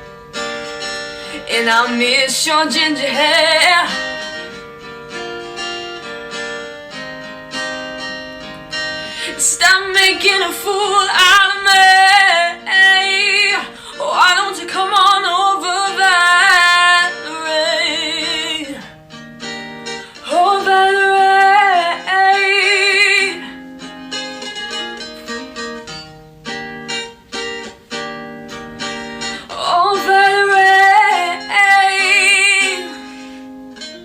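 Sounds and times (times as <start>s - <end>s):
strummed acoustic guitar: 0.0s - 34.0s.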